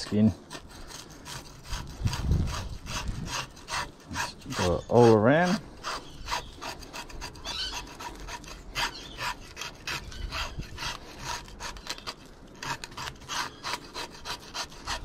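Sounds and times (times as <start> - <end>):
fish scaler scraping scales: 0.0 - 15.0.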